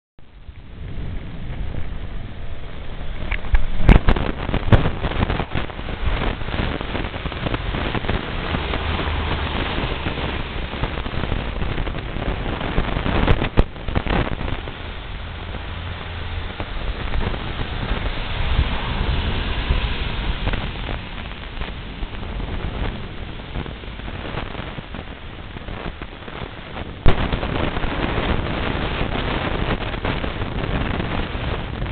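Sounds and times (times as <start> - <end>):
wind rumbling on microphone: 0.2 - 31.9.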